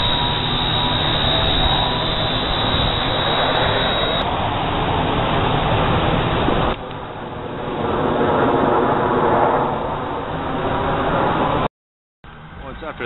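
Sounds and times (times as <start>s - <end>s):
jets passing overhead: 0.0s - 11.7s.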